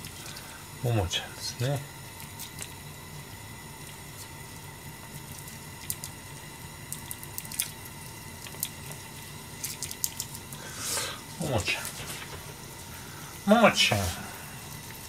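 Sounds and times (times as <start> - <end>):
steady low hum: 0.0 - 15.0
garlic crackling in oil: 2.0 - 15.0.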